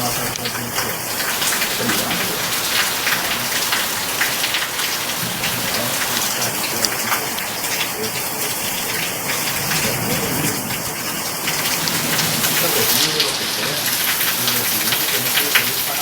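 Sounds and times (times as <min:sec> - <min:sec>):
heavy rain: 0:00.0 - 0:16.0
raindrops tapping: 0:00.0 - 0:16.0.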